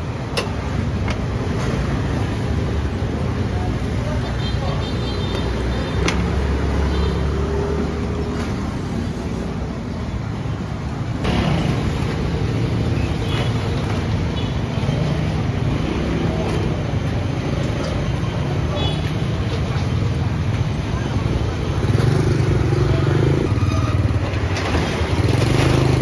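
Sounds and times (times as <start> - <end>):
passing motorbikes and cars: 0.0 - 26.0.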